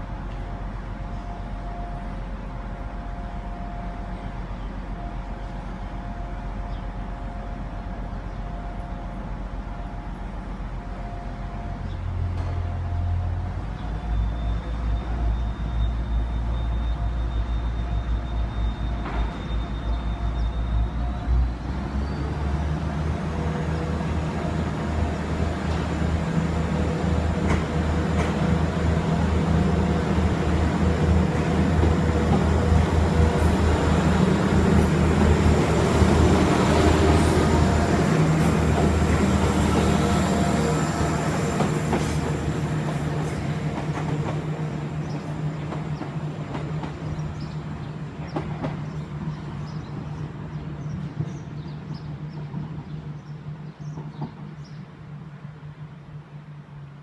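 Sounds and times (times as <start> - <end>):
train diesel engines running: 0.0 - 57.0.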